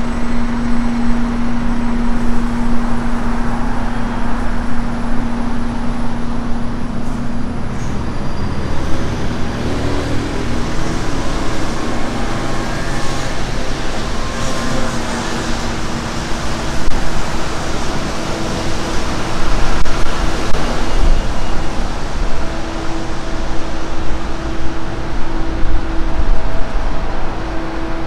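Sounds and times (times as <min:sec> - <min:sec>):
bus engine idling: 0:00.0 - 0:28.0
road traffic: 0:00.0 - 0:28.0
wind buffeting microphone: 0:00.0 - 0:28.0.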